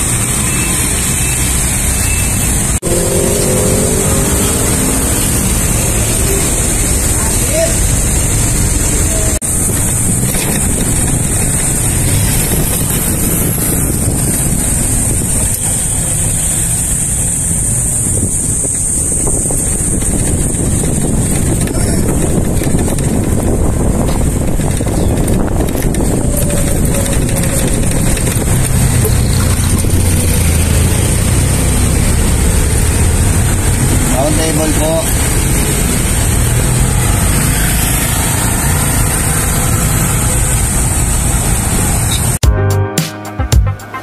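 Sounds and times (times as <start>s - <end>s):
vehicle engine rumble: 0.0s - 42.4s
wind rushing on microphone: 2.5s - 42.4s.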